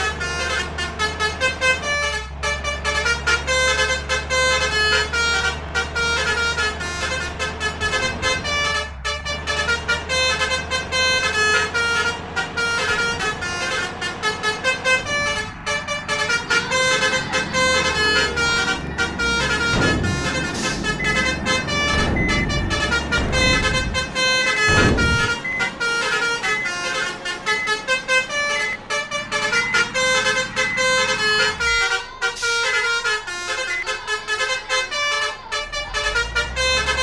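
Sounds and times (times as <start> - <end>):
low engine rumble: 0.0 - 37.0
musical air horns: 0.0 - 37.0.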